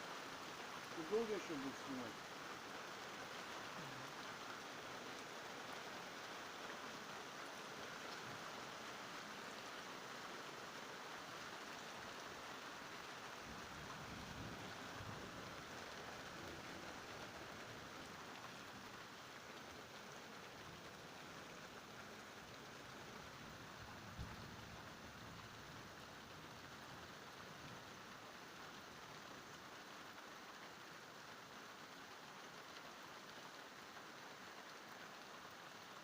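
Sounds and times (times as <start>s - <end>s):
rain hissing on surfaces: 0.0s - 36.0s.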